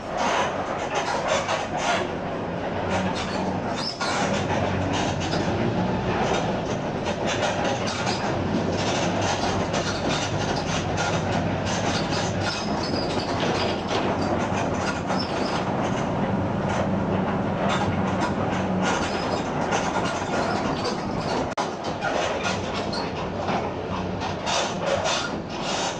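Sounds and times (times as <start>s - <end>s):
bus diesel engine running: 0.0s - 25.9s
rattles and knocks: 0.0s - 25.9s.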